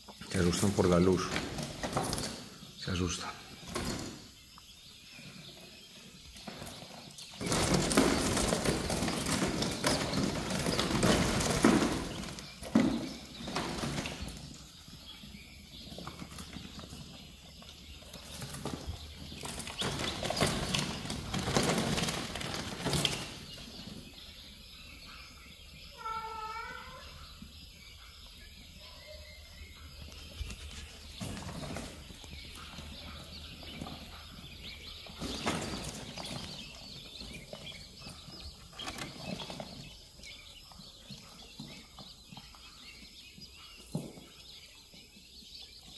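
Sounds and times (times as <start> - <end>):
quail fluttering and rustling: 0.2 - 25.4, 29.8 - 45.9.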